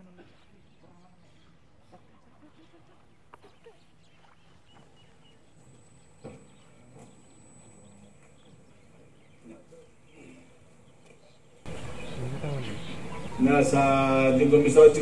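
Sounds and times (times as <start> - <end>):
faint distant calls: 0.0 - 15.0.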